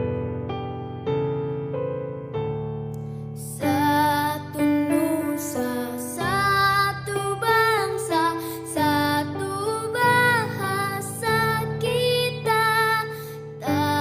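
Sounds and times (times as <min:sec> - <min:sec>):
soft electric piano chords: 0:00.0 - 0:14.0.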